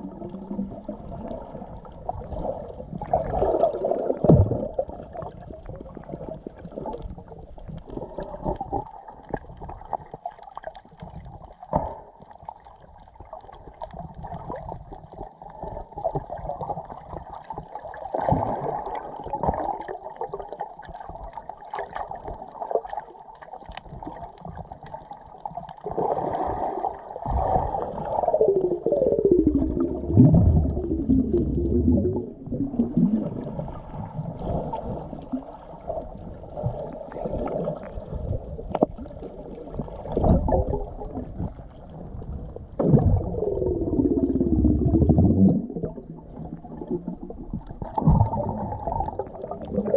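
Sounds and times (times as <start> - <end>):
muffled underwater churn: 0.0 - 49.9
underwater gurgling and bubbling: 0.0 - 49.9.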